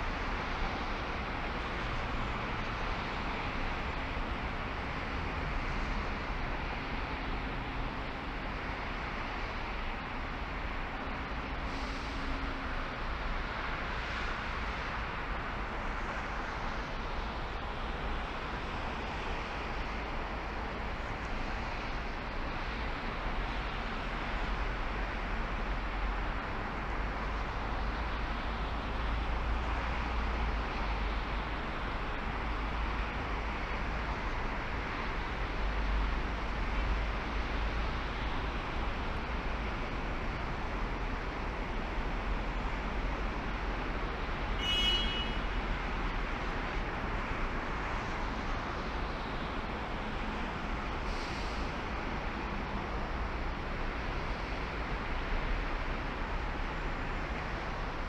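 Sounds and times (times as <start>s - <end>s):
car road noise: 0.0s - 58.0s.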